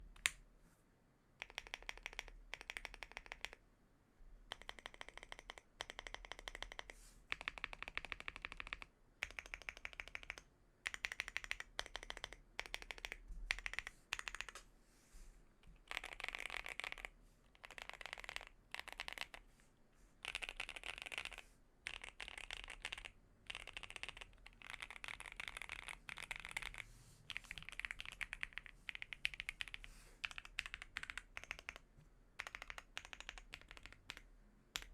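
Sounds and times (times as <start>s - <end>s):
mechanical keyboard typing: 1.4s - 3.6s, 4.5s - 14.6s, 15.8s - 19.4s, 20.2s - 31.8s, 32.4s - 34.9s.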